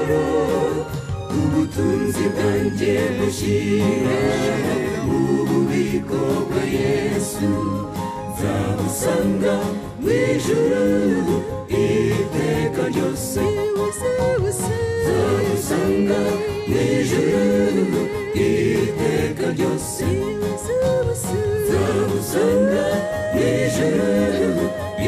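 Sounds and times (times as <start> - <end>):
gospel choir singing: 0.0 - 25.0.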